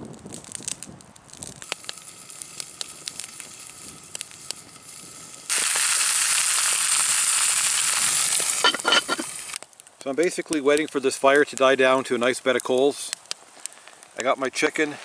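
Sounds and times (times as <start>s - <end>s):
campfire crackling and popping: 0.0s - 15.0s
loud steady hiss: 1.6s - 15.0s.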